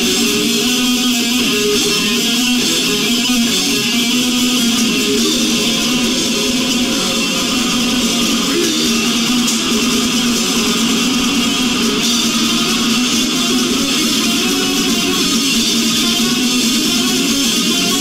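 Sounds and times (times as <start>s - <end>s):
bass guitar: 0.0s - 18.0s
distorted electric guitar: 0.0s - 18.0s.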